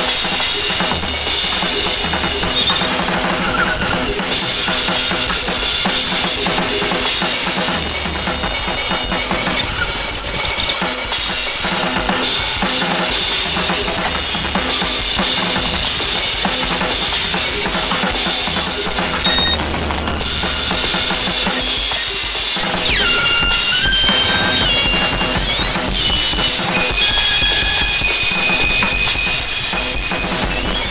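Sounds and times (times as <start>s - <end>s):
harsh noise music: 0.0s - 30.9s.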